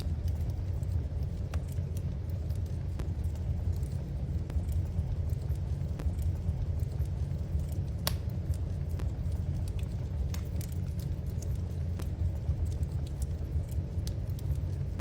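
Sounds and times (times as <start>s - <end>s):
low fire rumble: 0.0s - 15.0s
wood fire crackling and popping: 0.0s - 15.0s.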